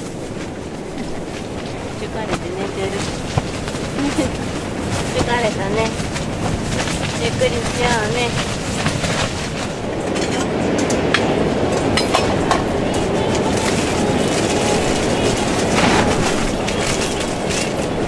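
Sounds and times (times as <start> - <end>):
wind battering a tent: 0.0 - 18.0.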